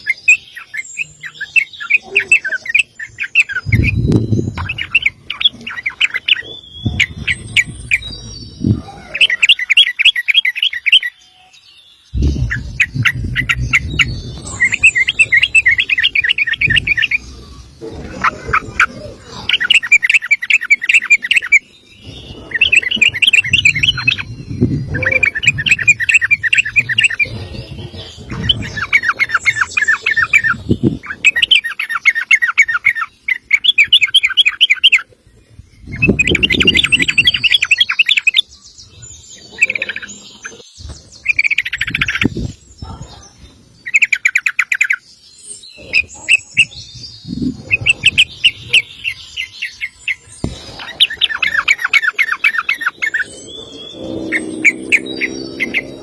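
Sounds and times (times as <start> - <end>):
bulbul singing rapid warble: 0.0 - 56.0.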